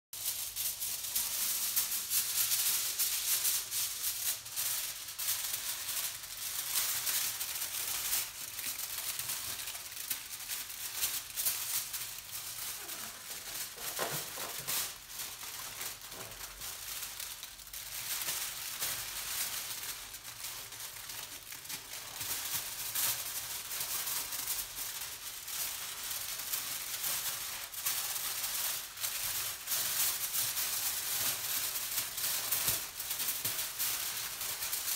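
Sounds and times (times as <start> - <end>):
aluminium foil crinkling: 0.2 - 34.9.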